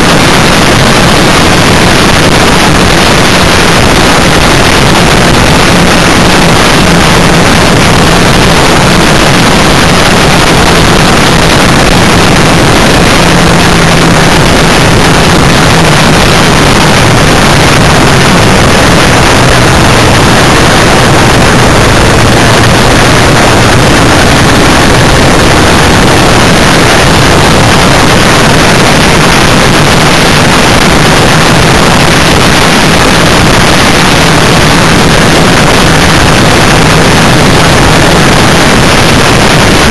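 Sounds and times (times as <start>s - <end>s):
vehicle engine running: 0.0s - 39.9s
wind rush on microphone: 0.0s - 39.9s.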